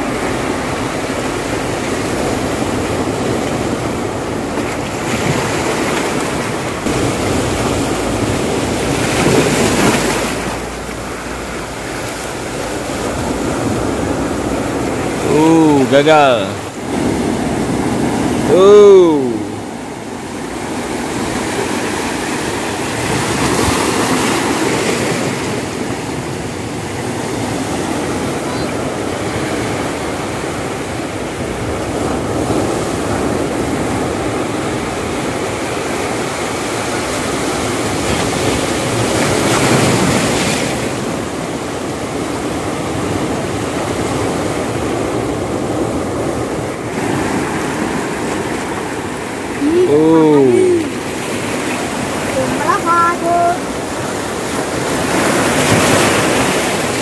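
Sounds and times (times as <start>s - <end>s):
sea waves washing: 0.0s - 57.0s.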